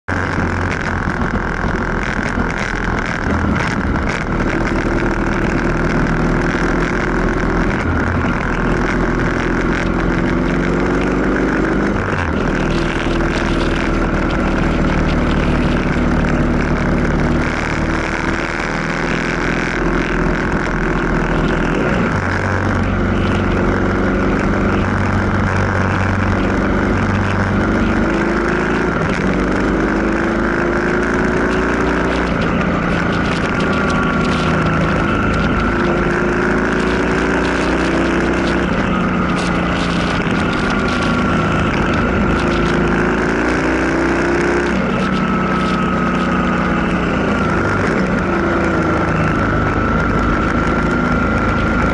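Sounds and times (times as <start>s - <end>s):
motorcycle engine revving: 0.0s - 51.9s
road and wind noise: 0.0s - 51.9s.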